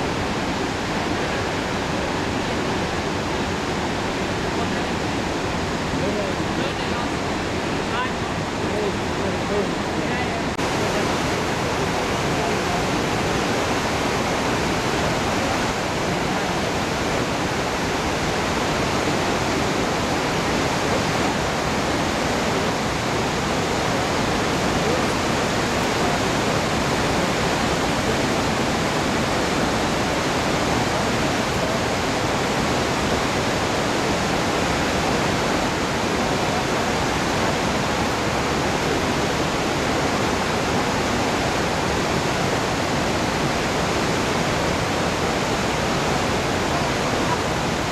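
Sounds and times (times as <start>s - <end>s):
waterfall roaring: 0.0s - 47.9s.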